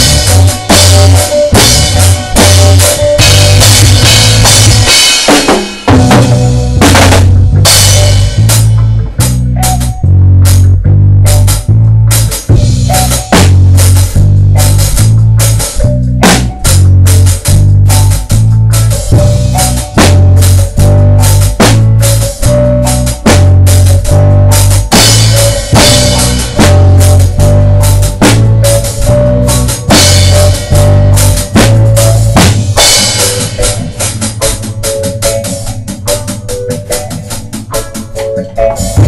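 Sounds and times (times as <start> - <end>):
drum kit reggae beat: 0.0 - 39.0
heavy bass line: 0.0 - 39.0.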